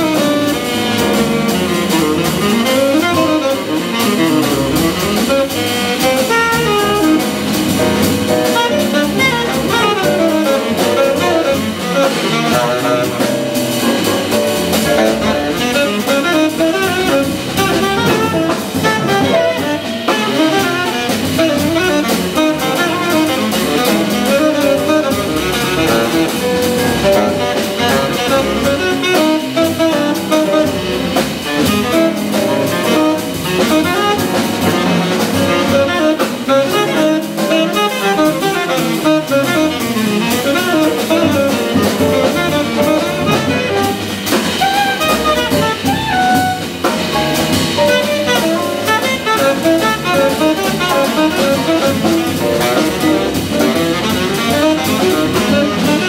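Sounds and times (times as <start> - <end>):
double bass: 0.0 - 56.0
drum kit: 0.0 - 56.0
piano: 0.0 - 56.0
saxophone lead: 0.0 - 56.0.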